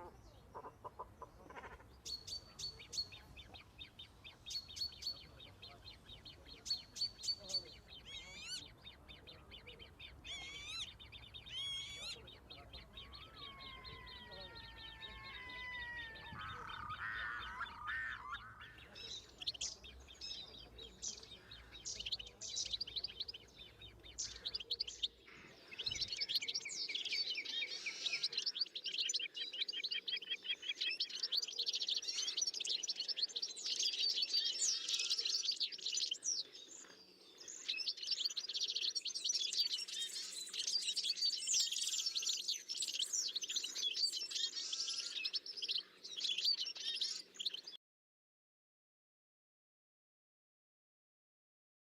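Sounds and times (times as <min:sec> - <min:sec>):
small birds chirping: 0:00.0 - 0:47.8.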